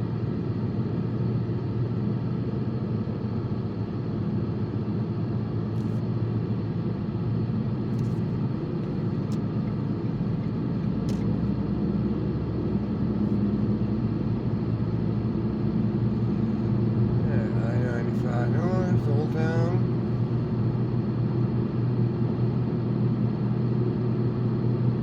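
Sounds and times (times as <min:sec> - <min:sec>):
car cabin road and engine hum: 0:00.0 - 0:25.0.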